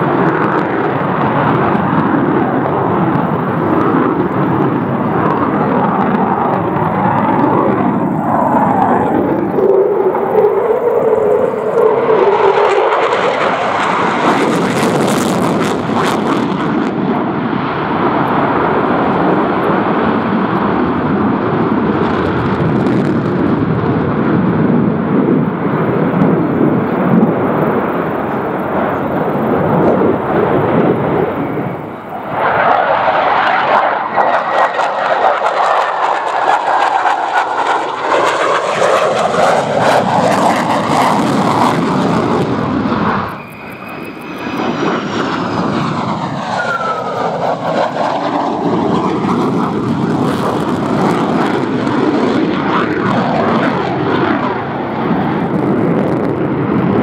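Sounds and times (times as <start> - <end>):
fighter jet roaring overhead: 0.0 - 57.0.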